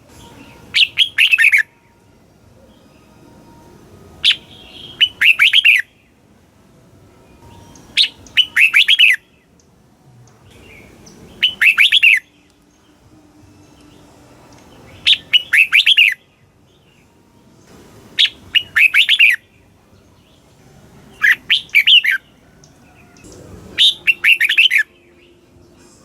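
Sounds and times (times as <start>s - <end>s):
bird singing song phrases: 0.1s - 2.0s, 4.2s - 6.2s, 7.3s - 26.0s.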